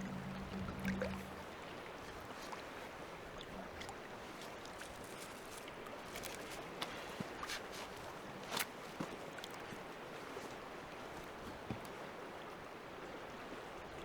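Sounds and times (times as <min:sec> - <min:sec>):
lake water lapping: 0:00.0 - 0:14.0.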